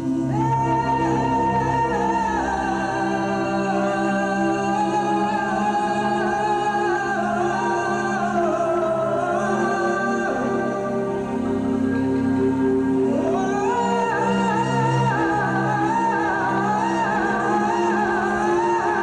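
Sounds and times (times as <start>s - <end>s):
person singing wavering melody: 0.0s - 19.0s.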